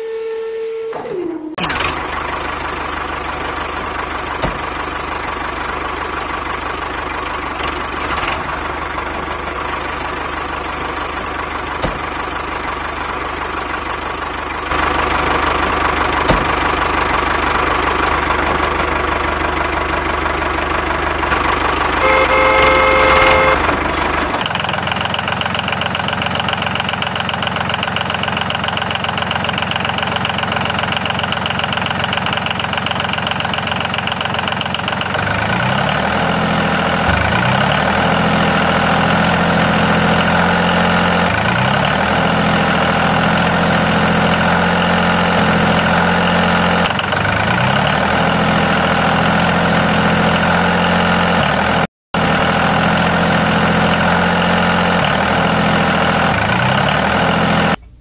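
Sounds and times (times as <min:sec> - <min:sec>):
small tractor engine running: 0:00.9 - 0:58.0.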